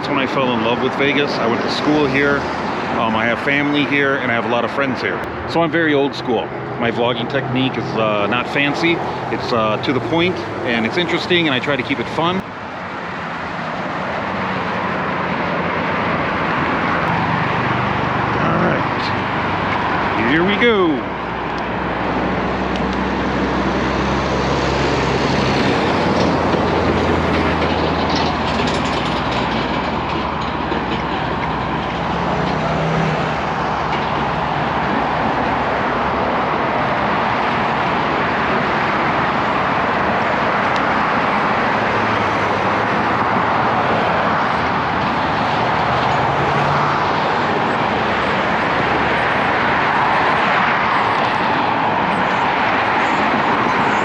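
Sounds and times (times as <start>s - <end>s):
passing vehicle engines hum: 0.0s - 54.0s
road traffic noise: 0.0s - 54.0s.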